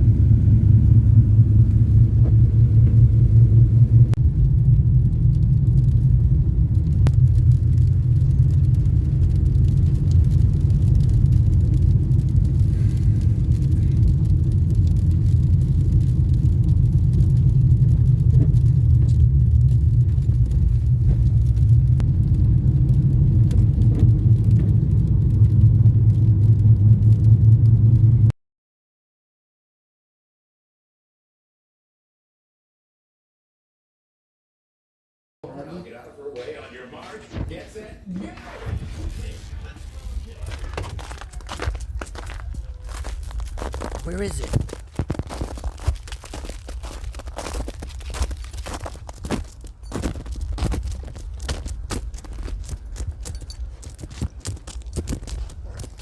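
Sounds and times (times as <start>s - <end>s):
steady low rumble: 0.0s - 28.3s, 35.4s - 56.0s.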